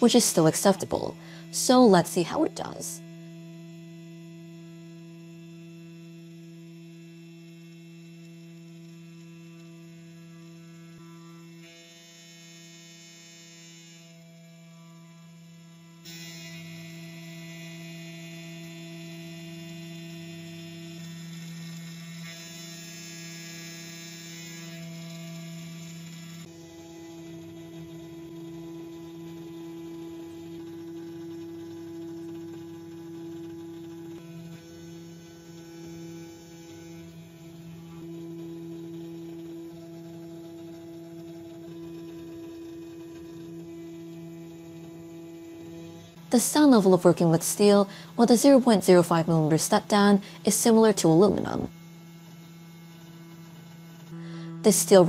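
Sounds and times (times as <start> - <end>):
cnc spindle whine: 0.0 - 55.0.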